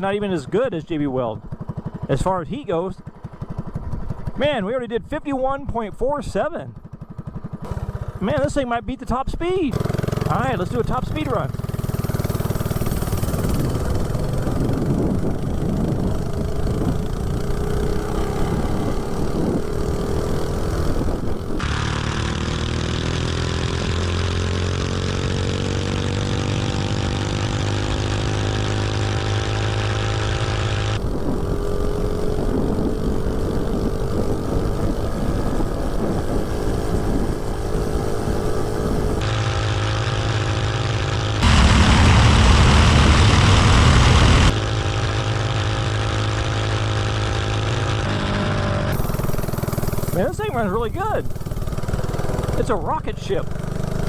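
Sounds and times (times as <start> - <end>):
mini bike engine at full throttle: 0.0 - 4.8, 6.7 - 8.7, 9.6 - 54.0.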